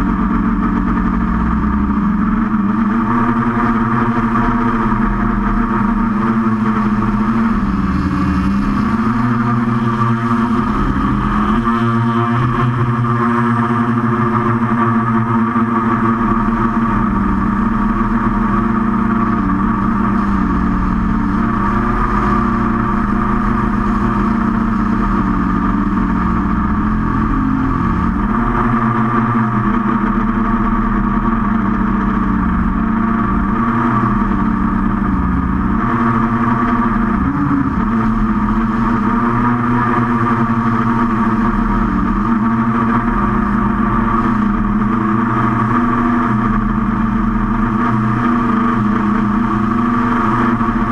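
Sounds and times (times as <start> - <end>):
quadcopter motors droning: 0.0 - 50.9.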